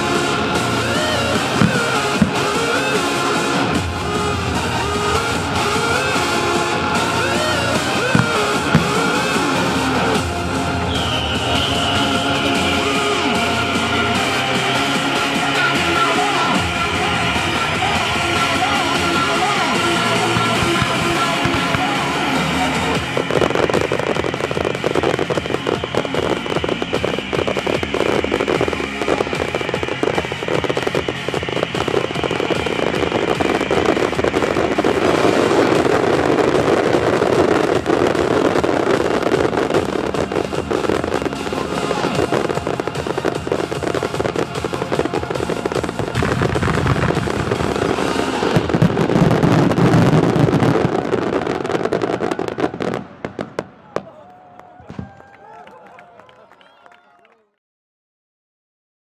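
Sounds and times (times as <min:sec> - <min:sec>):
music playing: 0:00.0 - 0:53.4
fireworks bangs and crackling: 0:00.0 - 0:55.4.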